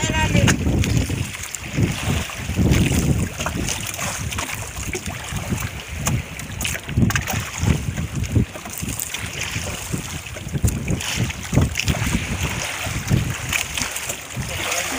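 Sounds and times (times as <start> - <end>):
sea water lapping: 0.0 - 14.9
wind buffeting microphone: 0.0 - 14.9.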